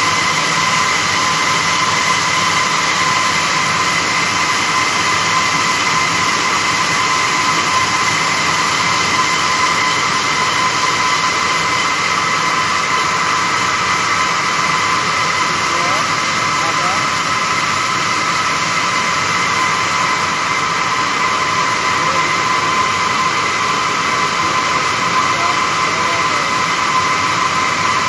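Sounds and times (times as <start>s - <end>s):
constant high whine: 0.0s - 28.0s
looms weaving mechanical din: 0.0s - 28.0s.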